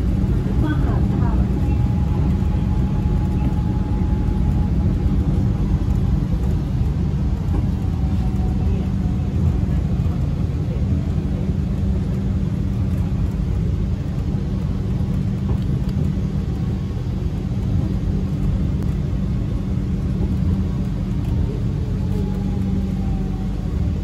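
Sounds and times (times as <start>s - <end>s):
monorail train rumble and hum: 0.0s - 24.0s.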